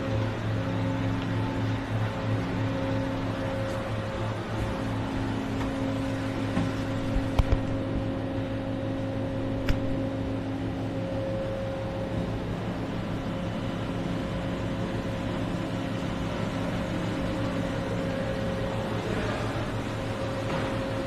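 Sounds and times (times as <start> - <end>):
machining centre humming: 0.0 - 21.0.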